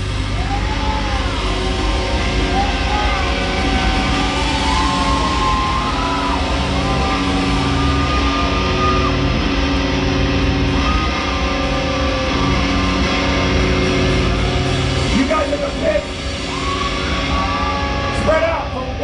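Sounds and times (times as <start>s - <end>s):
distorted electric guitars: 0.0s - 19.0s
heavy rock band playing: 0.0s - 19.0s.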